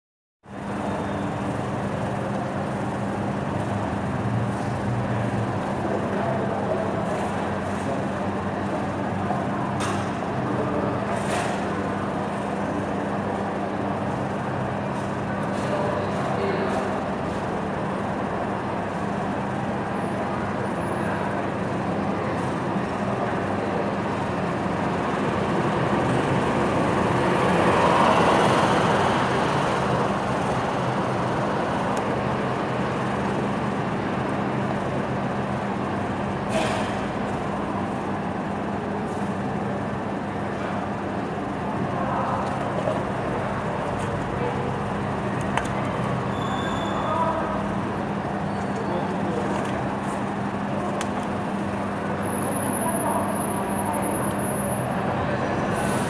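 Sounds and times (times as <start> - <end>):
bus moving past: 0.5 - 56.0
diesel bus engines humming: 0.5 - 56.0.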